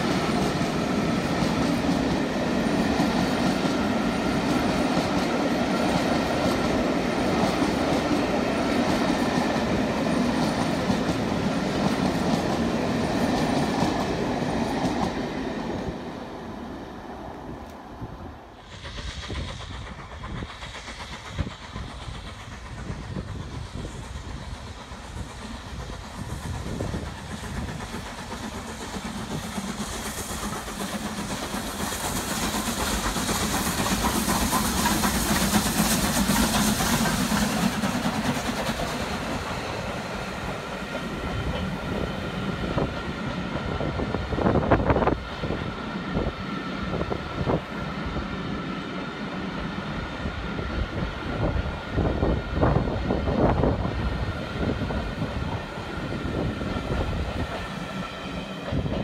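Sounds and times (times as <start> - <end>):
train wheels clicking over rail joints: 0.0 - 16.0, 17.3 - 59.0
steam locomotives passing: 0.0 - 59.0.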